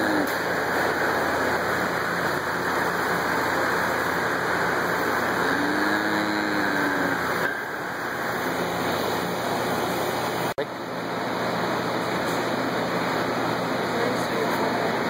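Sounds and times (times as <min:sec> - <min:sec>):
electric fan blowing: 0:00.0 - 0:15.0.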